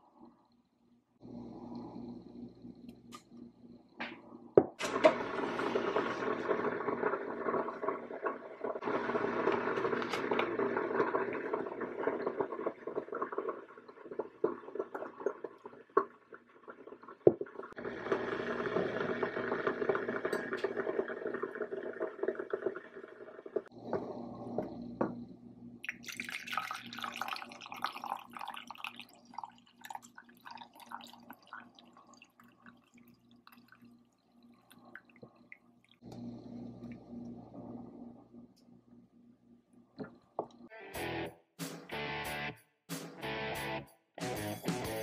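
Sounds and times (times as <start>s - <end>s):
kettle heating water: 1.2s - 40.7s.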